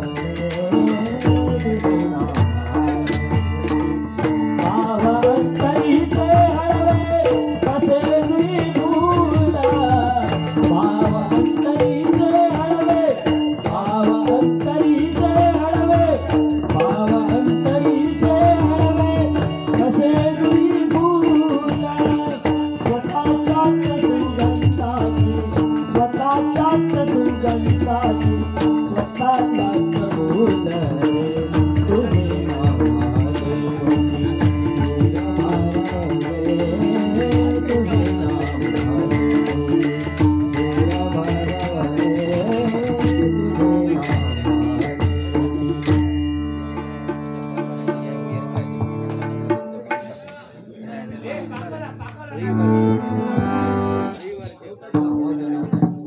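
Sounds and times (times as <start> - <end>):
fast hand drumming: 0.0 - 48.0
bright jingling percussion: 0.0 - 50.2, 52.7 - 55.0
harmonium melody: 0.0 - 54.9.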